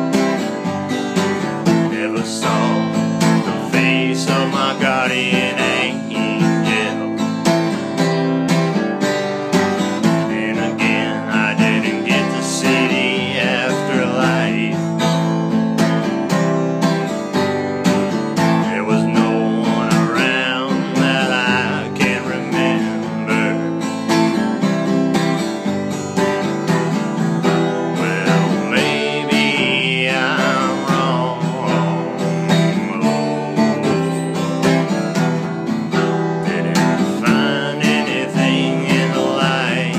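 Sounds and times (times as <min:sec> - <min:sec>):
strummed acoustic guitar: 0:00.0 - 0:39.9
bending melody line: 0:00.2 - 0:39.9.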